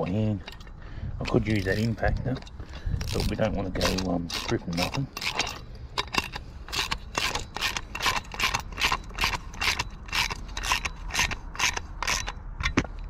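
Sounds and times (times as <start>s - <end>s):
socket ratchet clicking: 2.4s - 12.9s.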